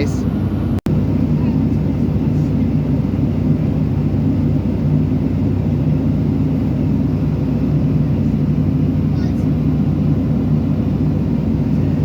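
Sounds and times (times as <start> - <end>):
aircraft cabin engine rumble: 0.0 - 12.0
constant low hum: 0.0 - 12.0.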